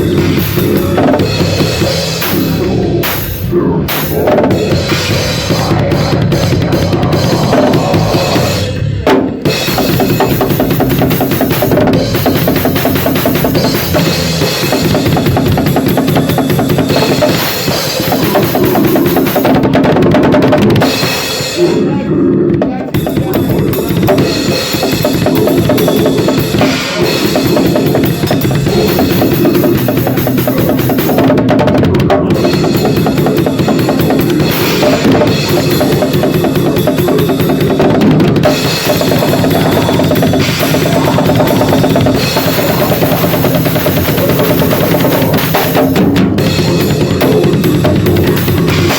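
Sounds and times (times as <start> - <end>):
drum kit playing fast: 0.0 - 48.9.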